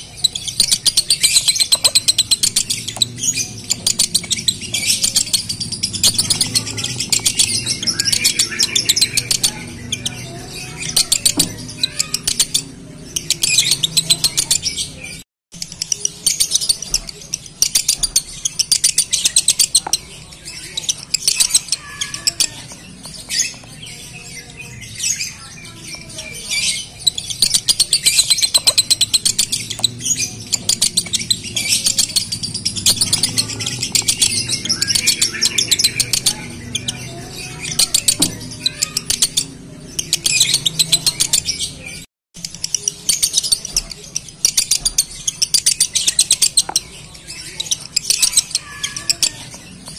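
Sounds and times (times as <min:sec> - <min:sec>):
bird singing rapid chirps: 0:00.0 - 0:49.9.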